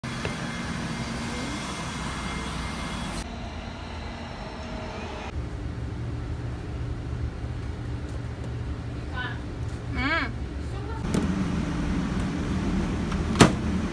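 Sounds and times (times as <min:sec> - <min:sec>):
outdoor noise: 0:00.0 - 0:13.9
subway train rumbling: 0:00.0 - 0:13.9
steady low hum: 0:00.8 - 0:13.9.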